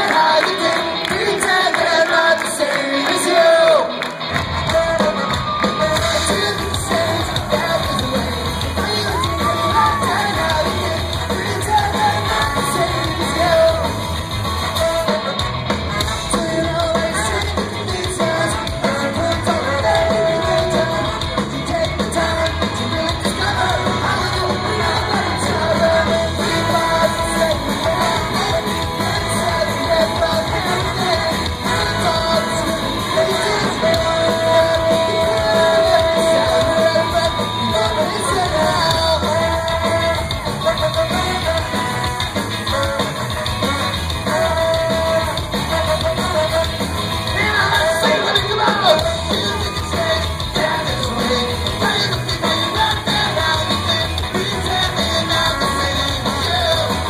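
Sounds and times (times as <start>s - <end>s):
person singing and shouting: 0.0s - 57.0s
ska-punk band playing: 0.0s - 57.0s.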